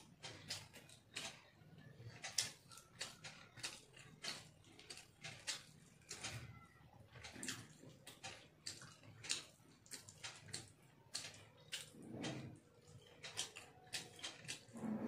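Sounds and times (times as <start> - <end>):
wet chewing and lip-smacking: 0.0 - 14.8.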